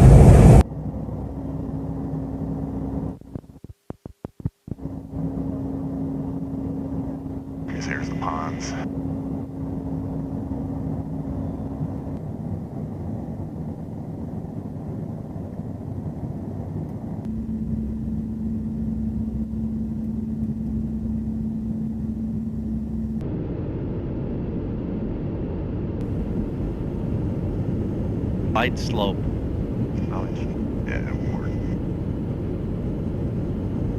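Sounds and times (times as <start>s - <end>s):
jet engines and airflow rumble: 0.0s - 33.9s
steady hum: 0.0s - 33.9s.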